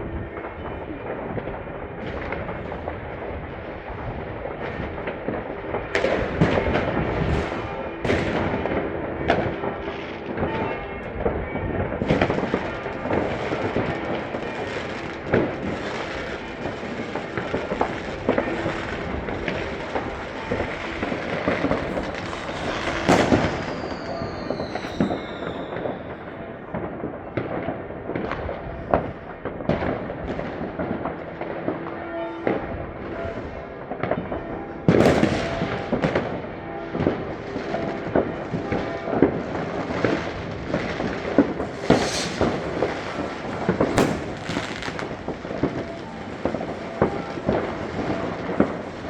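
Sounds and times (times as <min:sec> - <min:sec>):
fireworks crackling and banging: 0:00.0 - 0:49.0
whistling firework: 0:00.4 - 0:30.4, 0:34.9 - 0:49.0.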